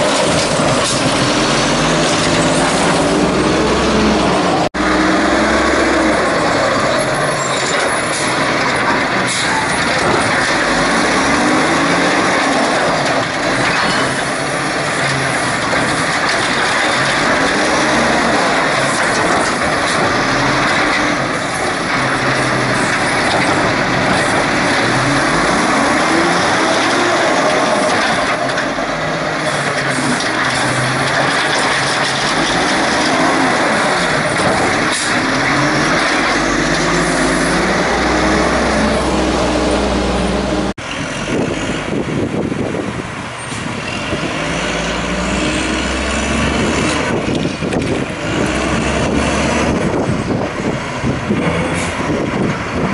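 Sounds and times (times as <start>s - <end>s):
hydraulic arm lifting cart: 0.0s - 42.4s
garbage truck engine revving: 0.0s - 52.9s.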